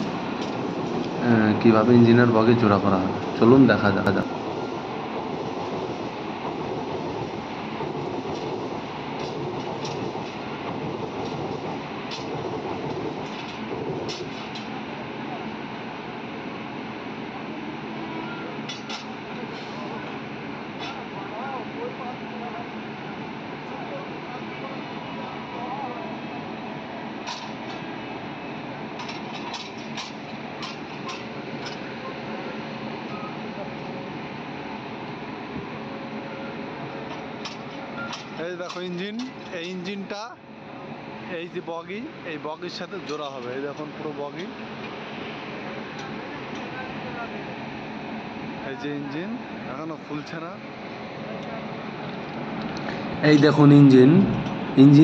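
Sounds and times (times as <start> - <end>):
electric locomotive humming: 0.0 - 55.0
train wheels rumbling on rails: 0.0 - 55.0.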